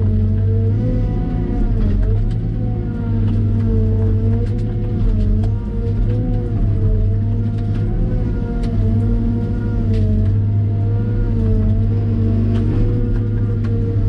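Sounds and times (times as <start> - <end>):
diesel excavator engine running: 0.0 - 14.0.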